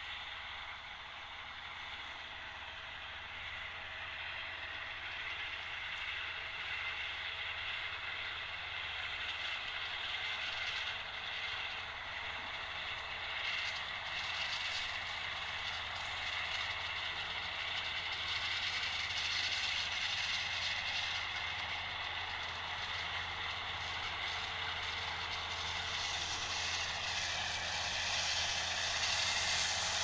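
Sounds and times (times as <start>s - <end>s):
tractor mower drone: 0.0s - 30.0s.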